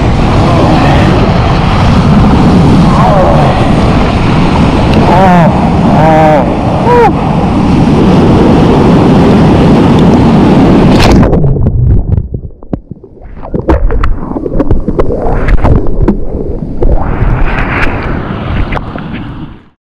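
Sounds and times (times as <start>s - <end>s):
water and wind rushing over microphone: 0.0s - 19.8s.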